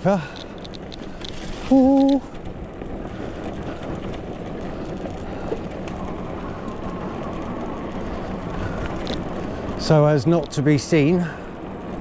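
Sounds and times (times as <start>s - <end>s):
bike and trailer rumbling: 0.0s - 12.0s.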